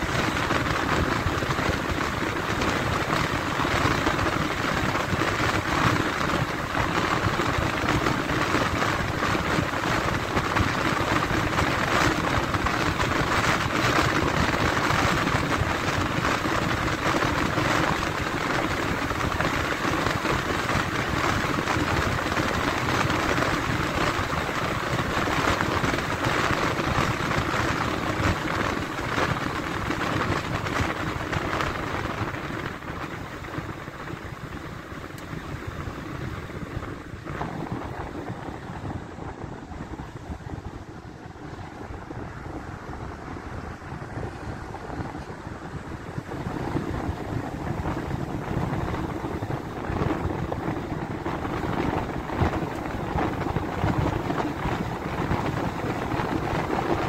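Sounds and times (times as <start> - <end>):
moving vehicle rushing noise: 0.0 - 57.0.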